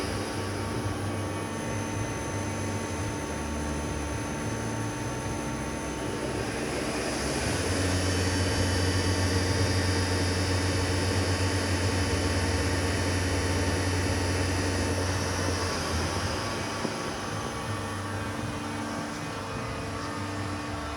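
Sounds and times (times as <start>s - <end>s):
milling machine humming: 0.0s - 20.9s.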